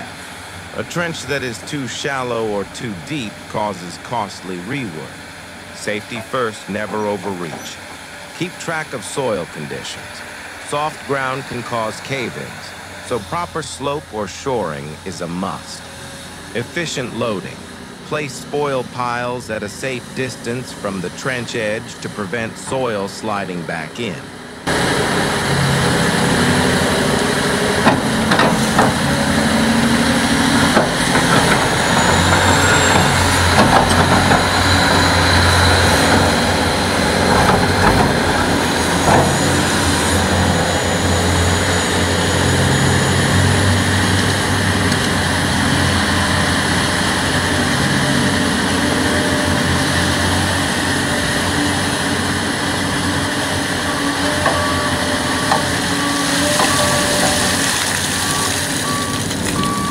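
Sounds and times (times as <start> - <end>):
excavator diesel engine running: 0.0 - 59.9
reversing beeper: 5.8 - 59.9.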